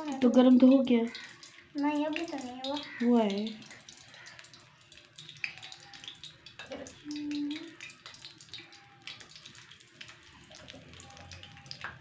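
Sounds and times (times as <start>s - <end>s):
potatoes sizzling in fat: 0.0s - 12.0s
sharp crackles and pops: 0.0s - 12.0s.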